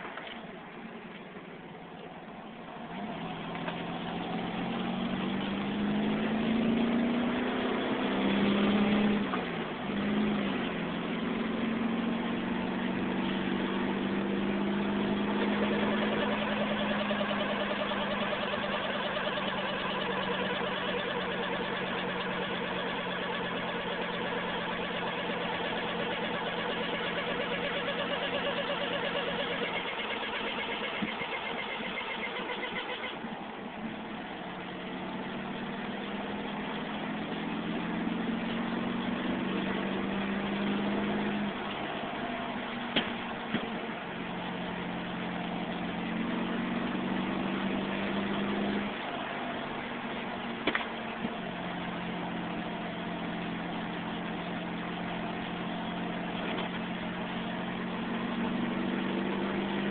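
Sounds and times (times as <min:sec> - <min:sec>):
car engine hum: 0:00.0 - 0:59.9
high fast-pulsing whir: 0:02.8 - 0:59.9.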